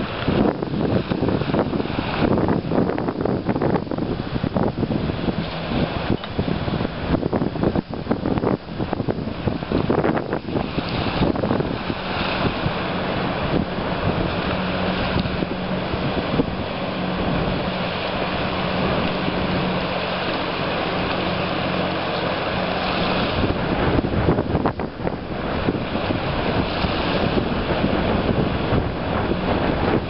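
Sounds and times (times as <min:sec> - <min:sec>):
boat engine drone: 0:00.0 - 0:30.0
wind buffeting microphone: 0:00.0 - 0:30.0.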